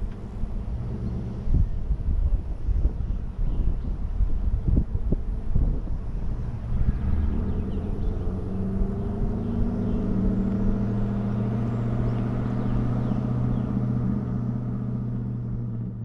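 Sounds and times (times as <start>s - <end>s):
car exhaust droning: 0.0s - 16.0s.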